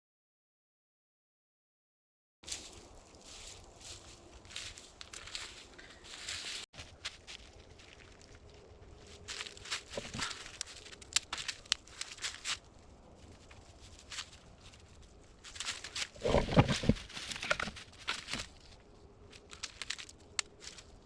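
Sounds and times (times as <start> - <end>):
dry leaf litter rustling: 2.5 - 21.0.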